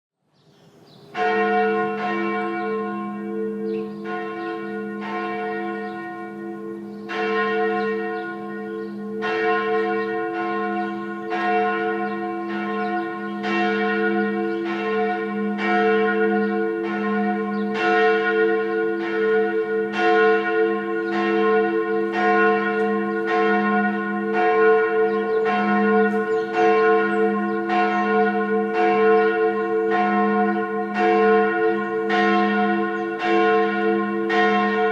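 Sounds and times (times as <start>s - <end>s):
church bell ringing as alarm: 1.1s - 34.9s.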